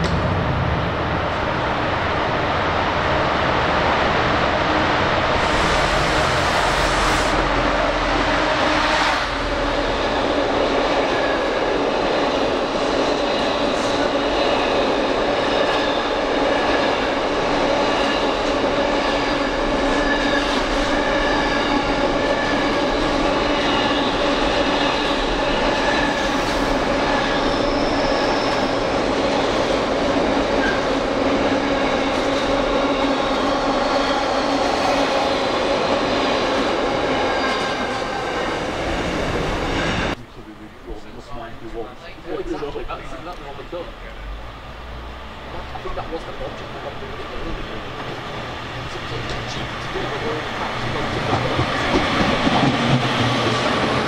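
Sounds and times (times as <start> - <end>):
train passing close: 0.0 - 54.0.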